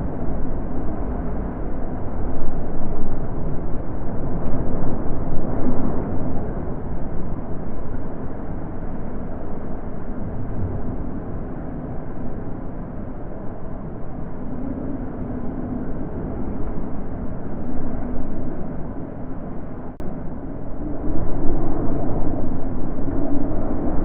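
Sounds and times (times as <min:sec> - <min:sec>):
wind blowing: 0:00.0 - 0:24.0.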